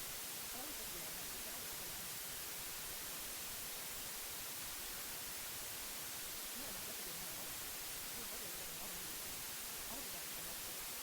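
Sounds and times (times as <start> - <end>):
white noise hiss: 0.0 - 11.0.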